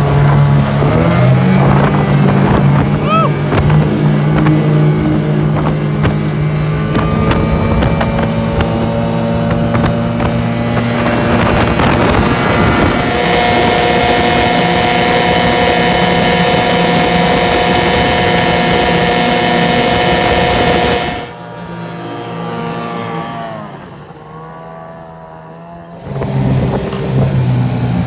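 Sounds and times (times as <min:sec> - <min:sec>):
wind on microphone: 0:00.0 - 0:21.4, 0:26.0 - 0:28.0
outboard motor running: 0:00.0 - 0:28.0.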